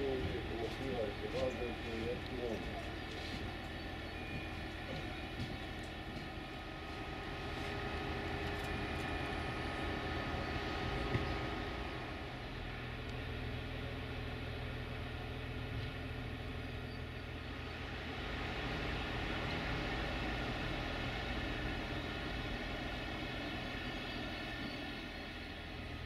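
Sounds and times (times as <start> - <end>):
diesel train engine idling: 0.0 - 26.0.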